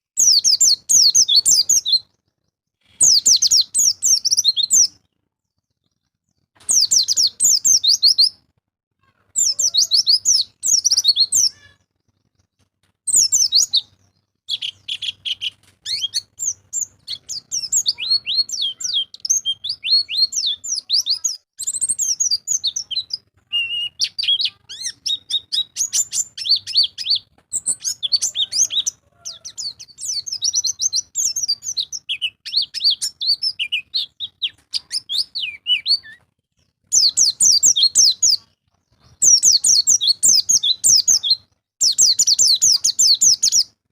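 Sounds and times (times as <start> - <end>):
bird singing chirping trills: 0.0 - 8.4, 9.3 - 43.8.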